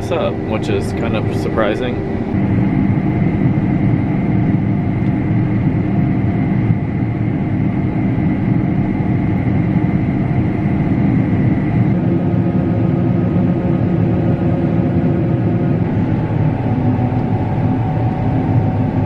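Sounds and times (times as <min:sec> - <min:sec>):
combine harvester droning: 0:00.0 - 0:19.0
thin steady whine: 0:00.0 - 0:19.0.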